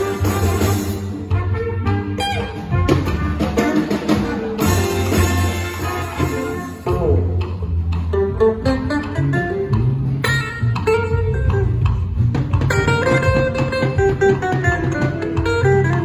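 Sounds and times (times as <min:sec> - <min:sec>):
plucked guitar notes: 0:00.0 - 0:16.0
steady bass line: 0:00.0 - 0:16.0.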